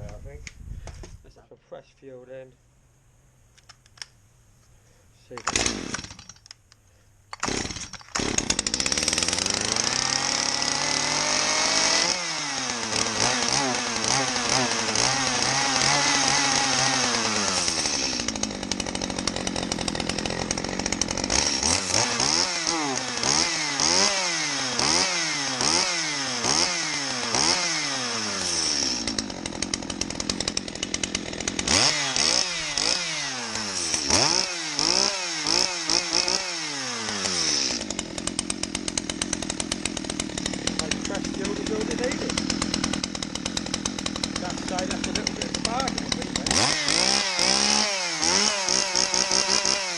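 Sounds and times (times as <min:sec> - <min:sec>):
chainsaw revving and idling: 0:05.3 - 0:06.5, 0:07.3 - 0:49.9.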